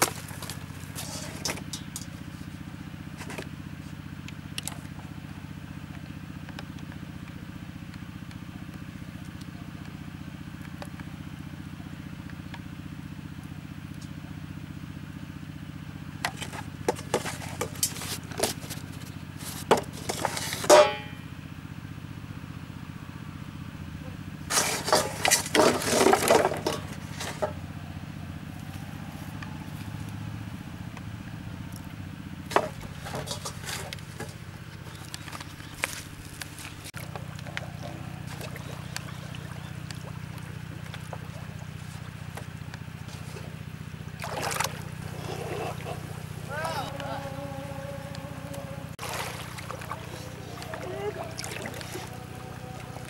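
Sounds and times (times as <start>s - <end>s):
low motor drone: 0.0s - 53.0s.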